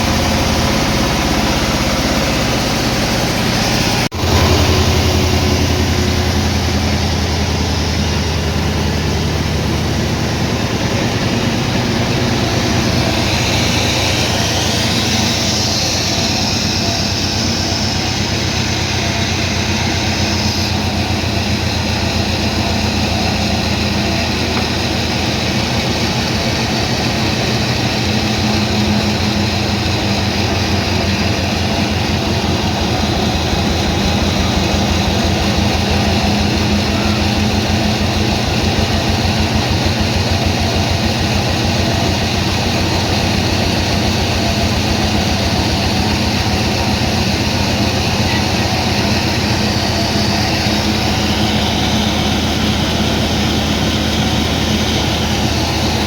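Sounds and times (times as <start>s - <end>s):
high machine whine: 0.0s - 56.0s
sawmill machinery running: 0.0s - 56.0s.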